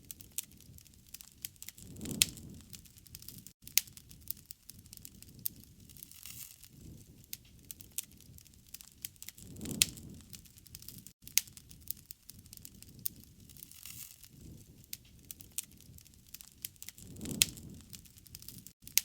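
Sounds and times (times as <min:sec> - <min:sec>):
rumble of burning flames: 0:00.0 - 0:18.8
campfire crackling pops: 0:00.0 - 0:19.0.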